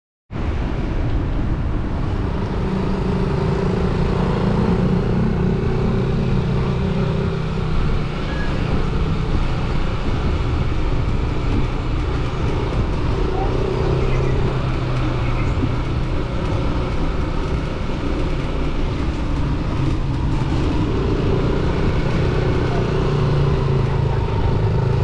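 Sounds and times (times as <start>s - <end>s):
wind rushing over microphone: 0.3s - 25.0s
scooter engine humming: 1.9s - 25.0s.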